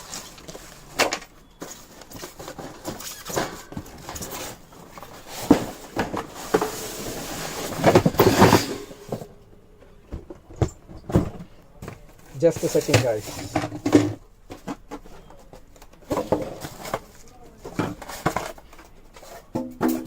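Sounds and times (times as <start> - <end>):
packaging rustling and scraping: 0.0 - 9.4, 10.7 - 19.6.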